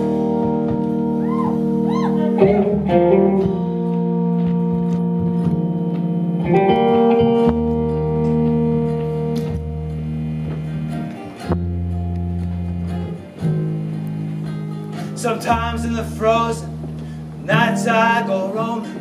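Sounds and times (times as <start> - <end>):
acoustic guitar chords: 0.0 - 19.0
electric guitar: 0.0 - 19.0
upright double bass: 0.0 - 19.0.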